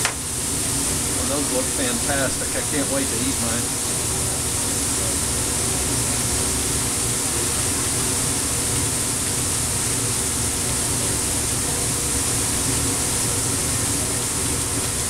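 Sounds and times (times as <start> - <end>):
patties sizzling on griddle: 0.0 - 15.0.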